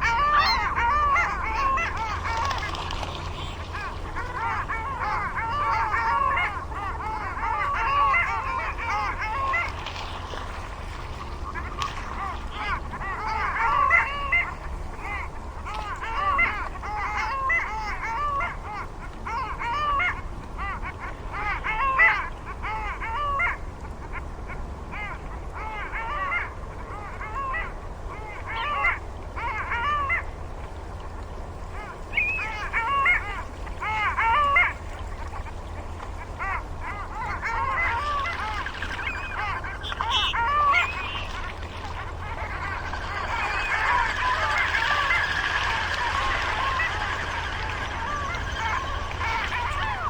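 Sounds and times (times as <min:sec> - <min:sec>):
waterfowl honking: 0:00.0 - 0:50.0.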